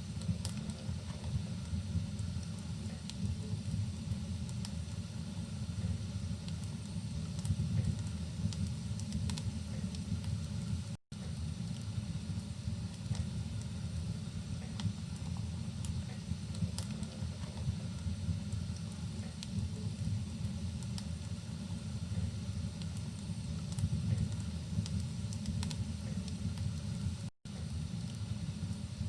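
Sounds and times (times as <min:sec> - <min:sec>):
fire rumbling: 0:00.0 - 0:29.0.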